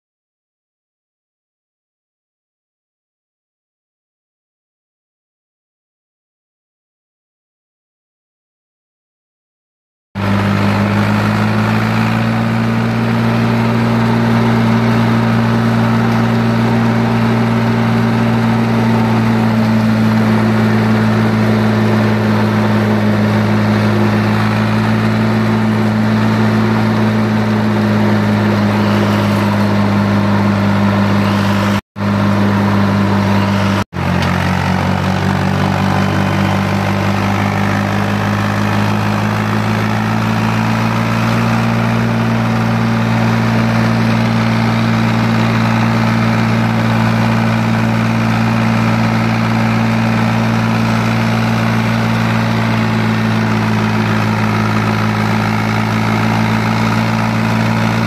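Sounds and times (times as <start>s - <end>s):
tractor diesel engine running: 10.2s - 58.0s.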